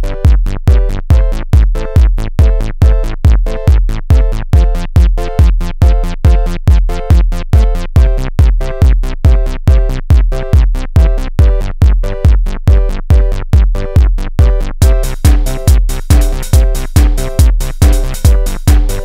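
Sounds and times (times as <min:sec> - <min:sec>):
drum machine beat: 0:00.0 - 0:19.0.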